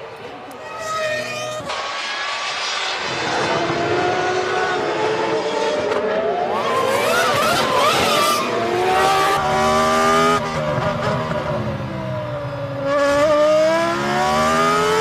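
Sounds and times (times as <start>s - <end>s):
racing car engines revving high: 0.6s - 15.0s.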